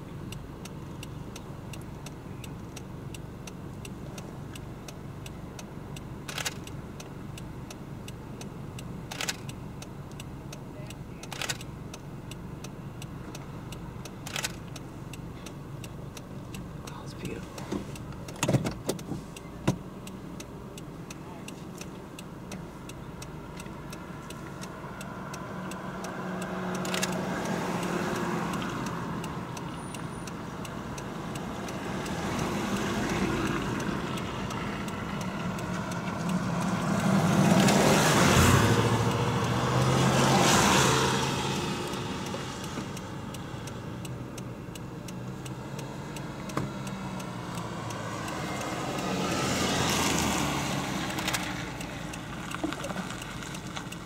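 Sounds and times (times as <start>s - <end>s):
vehicles driving by: 0.0s - 54.0s.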